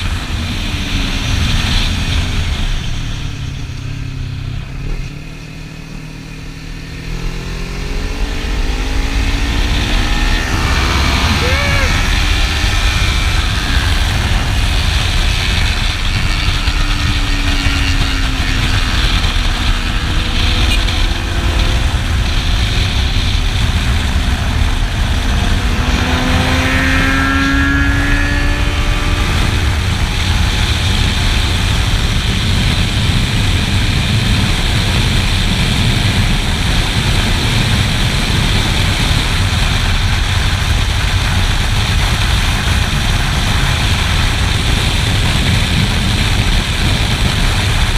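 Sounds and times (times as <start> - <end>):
motorcycle engine: 0.0 - 47.9
wind rumble on microphone: 0.0 - 47.9.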